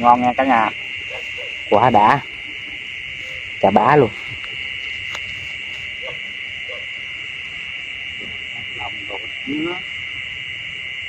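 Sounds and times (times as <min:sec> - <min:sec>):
crickets and night insects chirping: 0:00.0 - 0:11.0.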